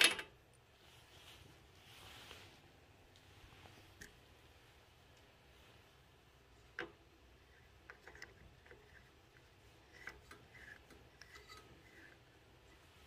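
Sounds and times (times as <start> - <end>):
faint clicks and rubbing: 0.0 - 13.0.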